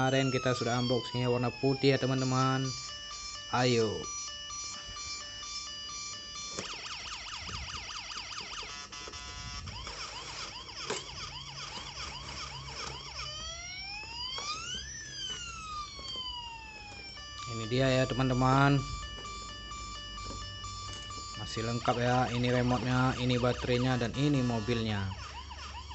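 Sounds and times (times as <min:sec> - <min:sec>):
toy electronic siren: 0:00.0 - 0:25.9.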